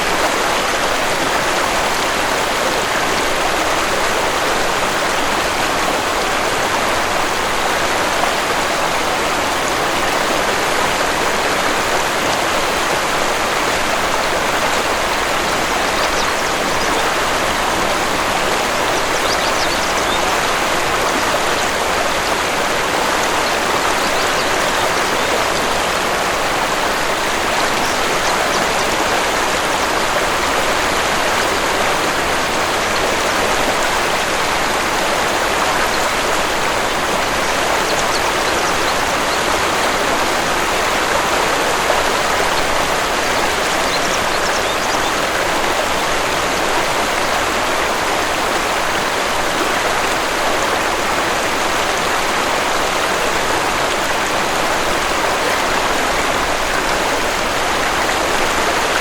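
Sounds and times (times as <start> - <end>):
waterfall water rushing: 0.0 - 59.0.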